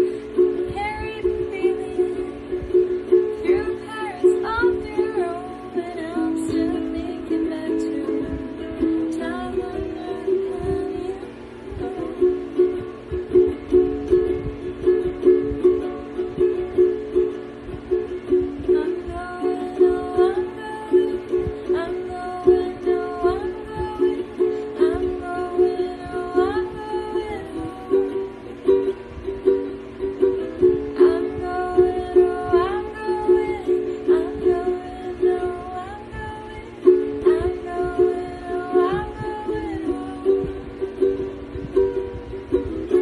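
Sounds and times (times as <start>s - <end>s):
woman singing: 0.0s - 17.3s, 18.0s - 43.0s
ukulele strumming chords: 0.0s - 43.0s.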